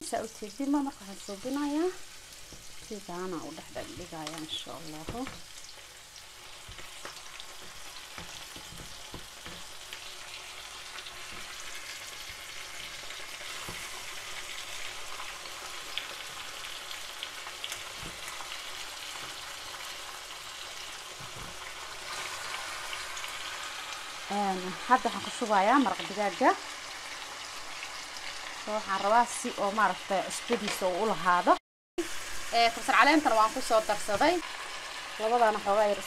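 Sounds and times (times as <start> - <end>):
onions sizzling in butter: 0.0 - 36.0.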